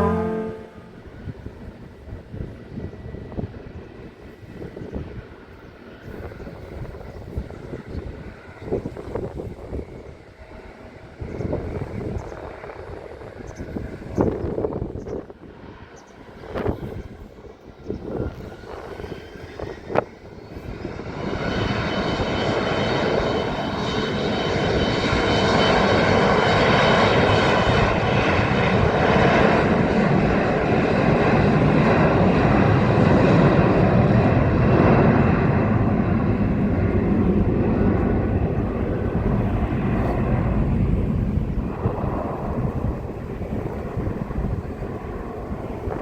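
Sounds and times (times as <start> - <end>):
airliner engines rumbling and whining: 0.0 - 46.0.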